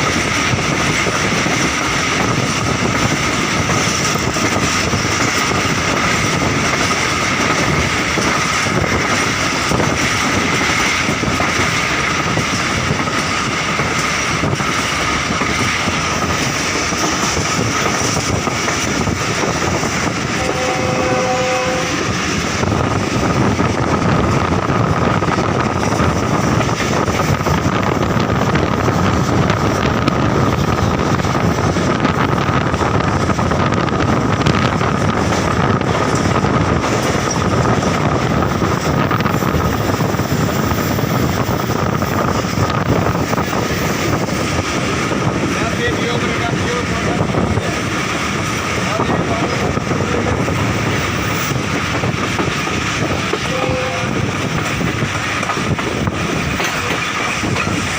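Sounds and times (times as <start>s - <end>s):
train wheels rumbling and rattling: 0.0s - 57.9s.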